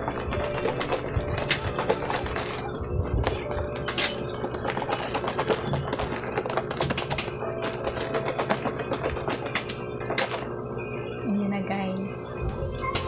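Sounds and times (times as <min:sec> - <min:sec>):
container being shaken rattling: 0:00.0 - 0:10.6
faint background music: 0:00.0 - 0:13.0.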